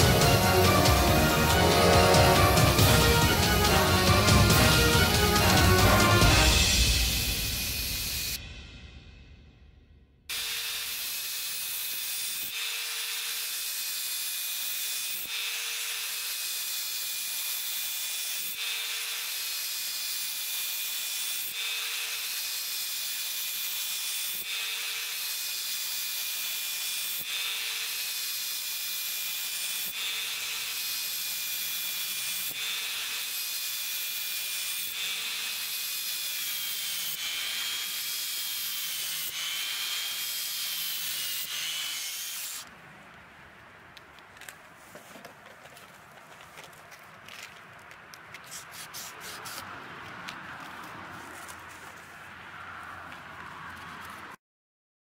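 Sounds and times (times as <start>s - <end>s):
belt sander grinding steel: 0.0s - 8.5s, 10.3s - 42.7s, 48.3s - 52.1s.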